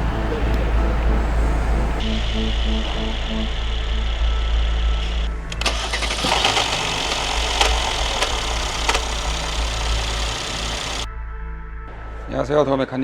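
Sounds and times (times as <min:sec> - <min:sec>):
car engine starting: 0:00.0 - 0:11.1
rattle inside engine: 0:00.4 - 0:11.1.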